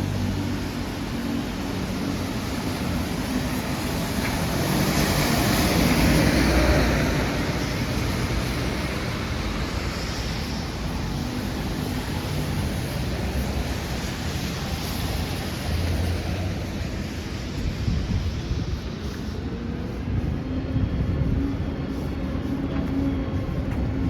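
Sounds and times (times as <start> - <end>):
low hum of engines: 0.0 - 24.0.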